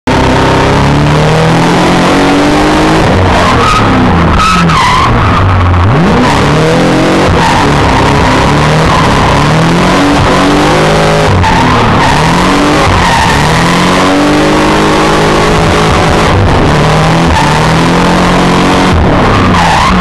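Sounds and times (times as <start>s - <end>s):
car engine revving: 0.1s - 20.0s.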